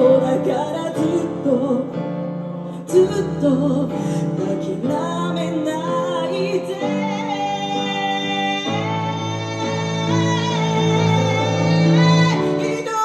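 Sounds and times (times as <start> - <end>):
acoustic accompaniment: 0.0 - 13.0.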